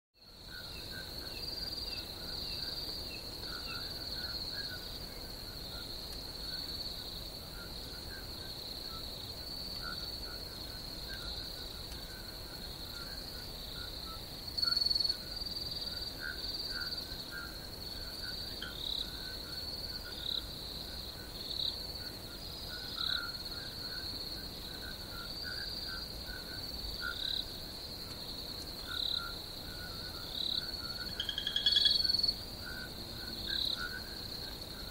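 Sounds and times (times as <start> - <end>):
crickets trilling: 0.2 - 34.9
frogs croaking: 0.2 - 34.9.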